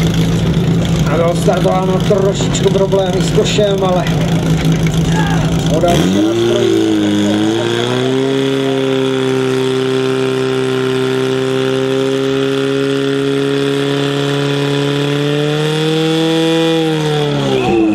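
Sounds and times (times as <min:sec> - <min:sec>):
pump engine running: 0:00.0 - 0:15.9.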